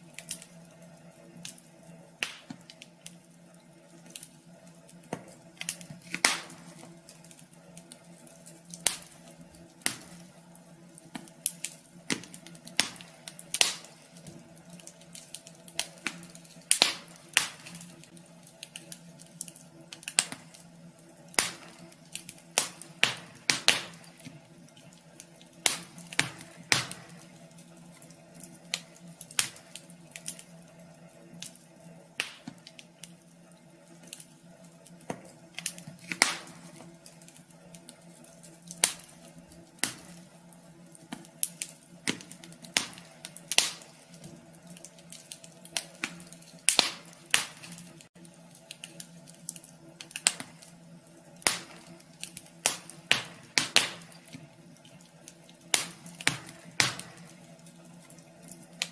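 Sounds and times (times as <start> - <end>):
steady low hum: 0.0 - 58.9
wood fire crackling in a stove: 0.0 - 58.9.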